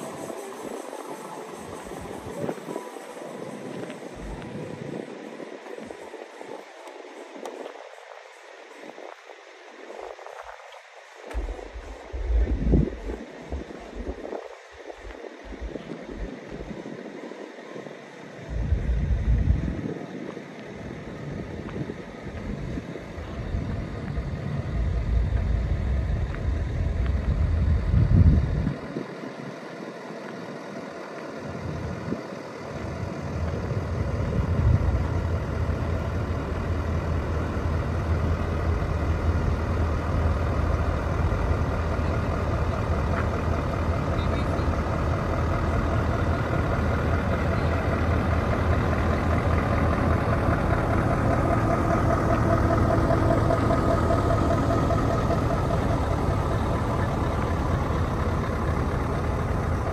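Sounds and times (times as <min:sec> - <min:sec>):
heavy truck engines rumbling: 0:00.0 - 0:59.9.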